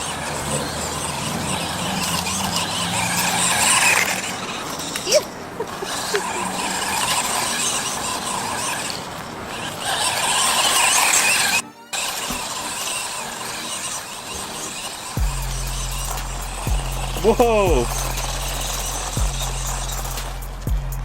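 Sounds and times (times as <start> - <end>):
toy truck motor whining: 0.0 - 21.0
tyre and chassis rattle: 0.0 - 21.0.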